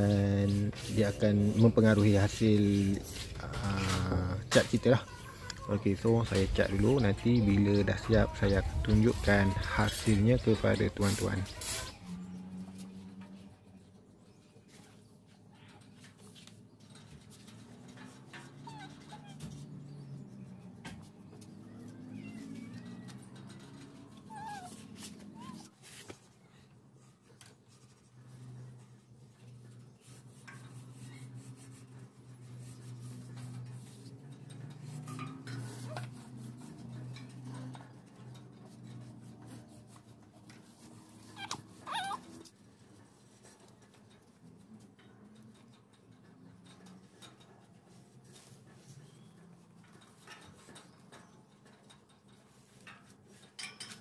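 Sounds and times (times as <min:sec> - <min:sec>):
paintbrush rubbing on metal: 0:00.0 - 0:54.0.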